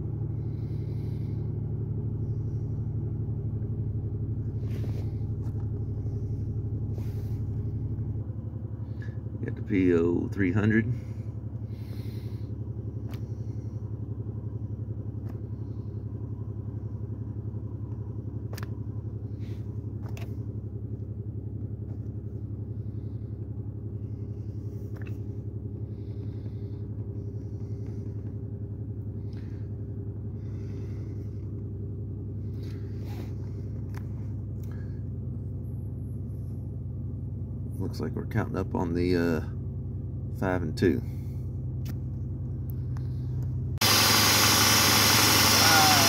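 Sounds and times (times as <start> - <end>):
car engine idling rough: 0.0 - 46.0.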